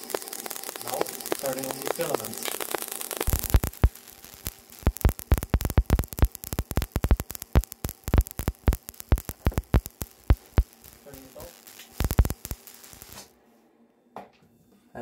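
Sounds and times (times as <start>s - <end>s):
sharp clicks and pops: 0.0s - 13.3s.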